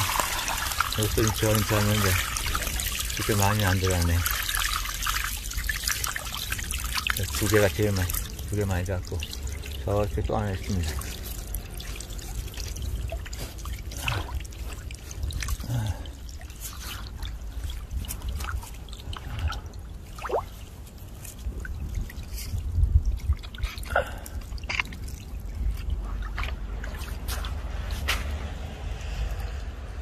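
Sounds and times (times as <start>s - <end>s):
drips and small splashes: 0.0s - 30.0s
stream water trickling: 0.0s - 30.0s.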